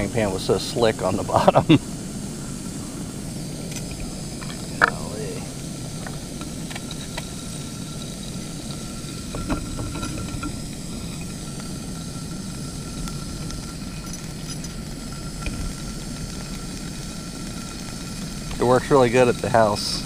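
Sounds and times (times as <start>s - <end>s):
stove burner rushing: 0.0s - 20.0s.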